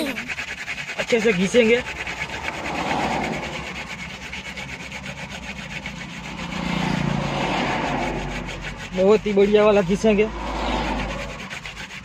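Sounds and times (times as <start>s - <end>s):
rapid rhythmic scraping of palms: 0.0s - 12.0s.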